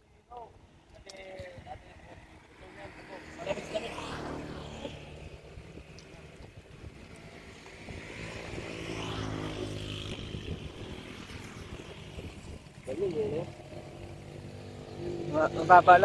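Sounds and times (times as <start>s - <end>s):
vehicle engine passing by: 1.8s - 16.0s.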